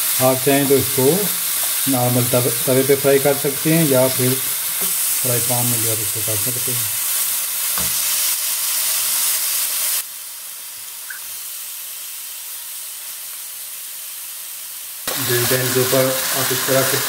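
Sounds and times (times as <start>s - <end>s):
steaks sizzling on grill pan: 0.0s - 17.0s.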